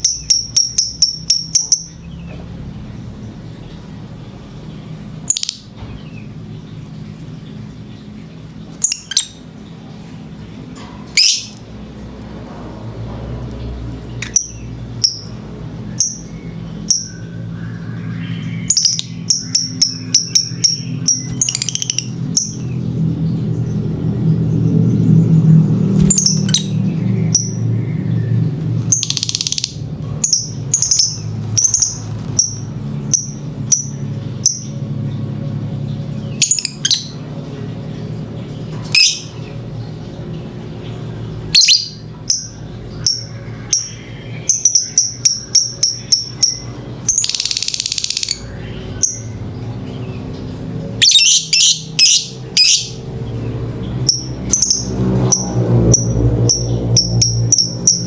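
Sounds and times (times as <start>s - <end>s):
bird chirping high-pitched: 0.0s - 9.7s, 11.1s - 11.7s, 14.1s - 37.6s, 38.5s - 58.0s
steady low hum: 0.0s - 58.0s.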